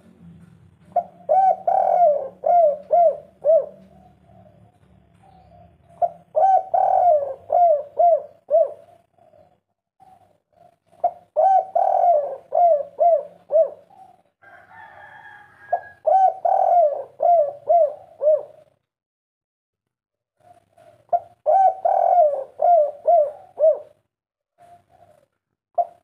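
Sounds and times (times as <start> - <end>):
dove cooing song: 0.8 - 18.8, 20.4 - 26.0.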